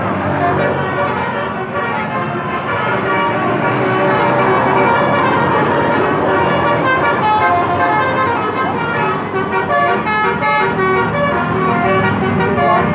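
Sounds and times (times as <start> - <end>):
bus horn playing a tune: 0.0 - 12.9
passing traffic: 0.0 - 12.9.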